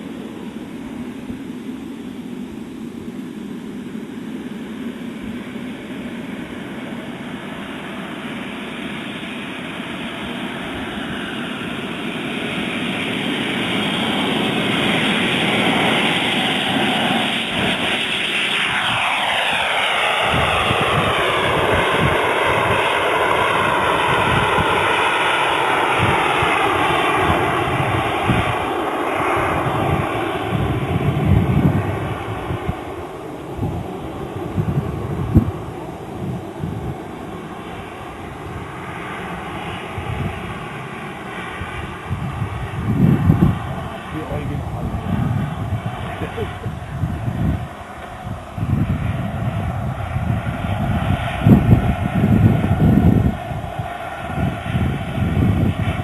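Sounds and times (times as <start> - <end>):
model jet engines running: 0.0 - 56.0.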